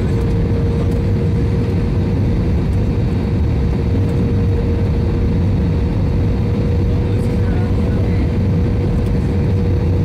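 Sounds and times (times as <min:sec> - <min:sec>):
jet airliner cabin noise: 0:00.0 - 0:10.0.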